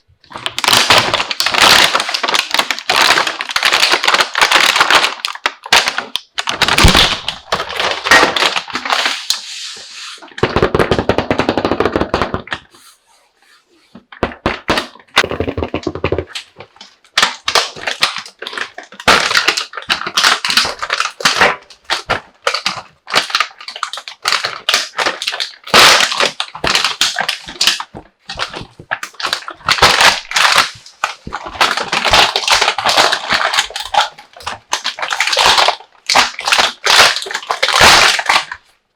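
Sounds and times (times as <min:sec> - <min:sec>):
plastic packaging crinkling: 0:00.0 - 0:12.9, 0:14.0 - 0:38.9
plastic toy pieces clicking: 0:00.3 - 0:09.0, 0:15.2 - 0:38.7.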